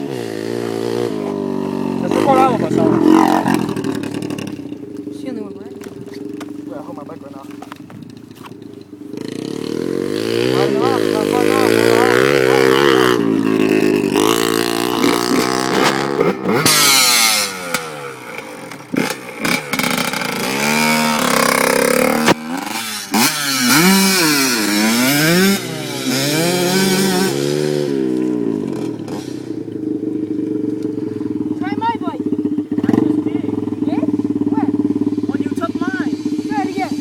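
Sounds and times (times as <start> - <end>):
off-road engine revving: 0.0 - 37.0.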